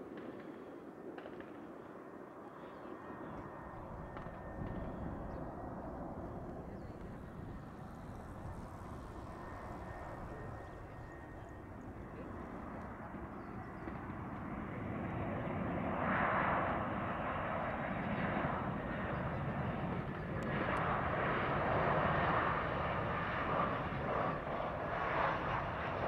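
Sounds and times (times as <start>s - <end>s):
jet airliner approaching: 0.0s - 26.0s.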